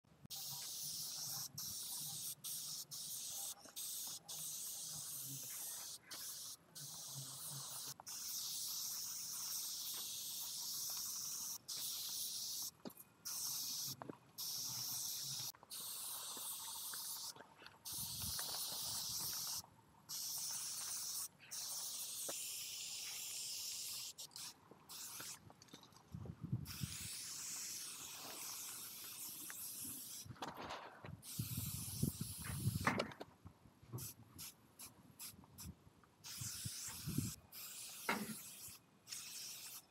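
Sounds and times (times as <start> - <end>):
spray paint can hissing: 0.3 - 25.4, 26.6 - 30.4, 31.2 - 33.1, 34.0 - 39.9.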